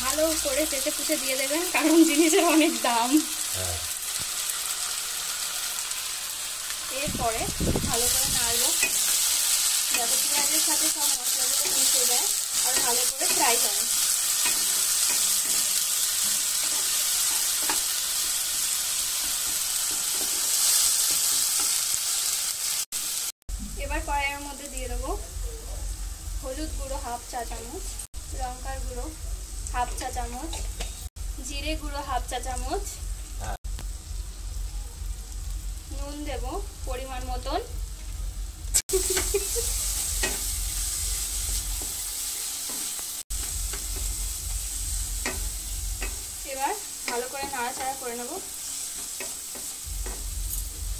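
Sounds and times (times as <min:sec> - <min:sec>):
onions sizzling in hot oil: 0:00.0 - 0:50.9.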